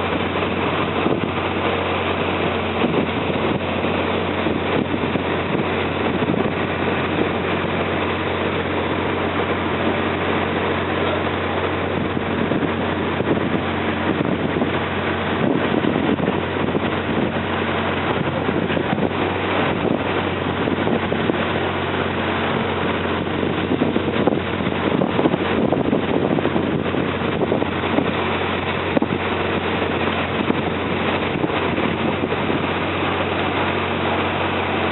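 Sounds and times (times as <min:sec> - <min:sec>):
boat engine humming: 0:00.0 - 0:34.9
water noise: 0:00.0 - 0:34.9
wind on microphone: 0:00.0 - 0:34.9.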